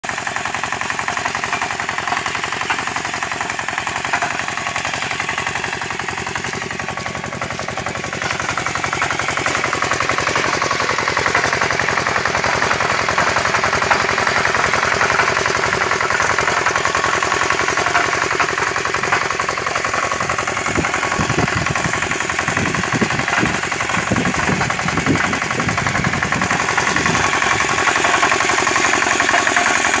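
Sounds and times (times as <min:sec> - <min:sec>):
small cultivator engine running: 0:00.0 - 0:30.0.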